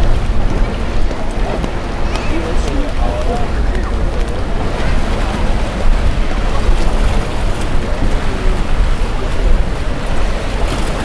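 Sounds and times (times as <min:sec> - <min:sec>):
faint voices: 0:00.0 - 0:11.0
sea surf roar: 0:00.0 - 0:11.0
wind buffeting microphone: 0:00.0 - 0:11.0.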